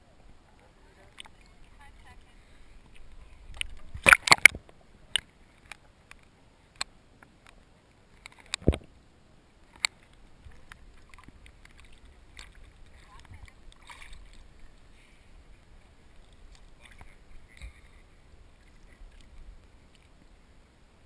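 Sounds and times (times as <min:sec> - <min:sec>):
faint low water wash: 0:00.0 - 0:21.0.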